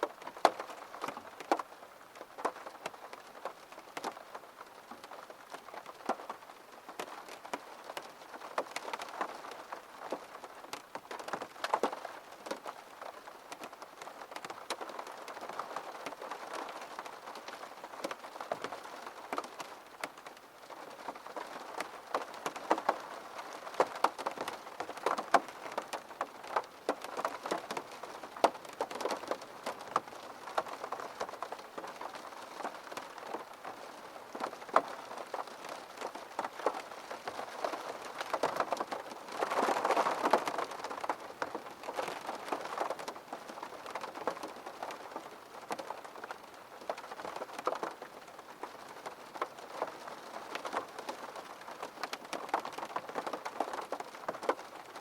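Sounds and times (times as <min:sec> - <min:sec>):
rain tapping on window: 0:00.0 - 0:55.0.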